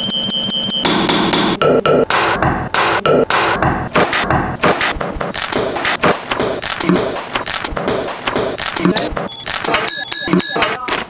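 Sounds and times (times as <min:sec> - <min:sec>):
rapid knocks and thumps: 0:00.9 - 0:09.9.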